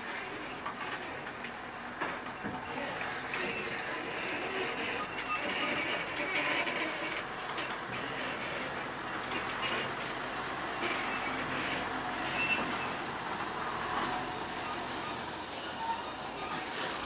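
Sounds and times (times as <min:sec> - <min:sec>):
truck engine running at low speed: 0:00.0 - 0:17.0.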